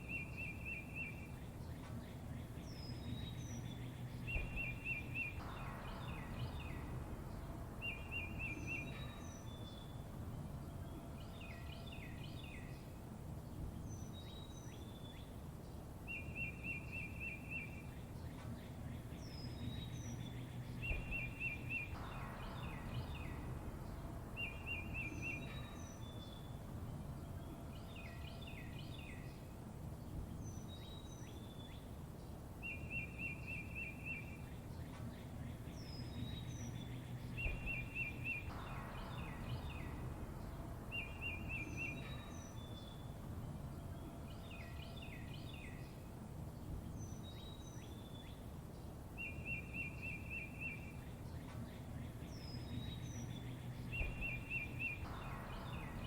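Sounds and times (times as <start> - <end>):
low background rumble: 0.0 - 56.0
songbirds chirping: 0.0 - 56.0.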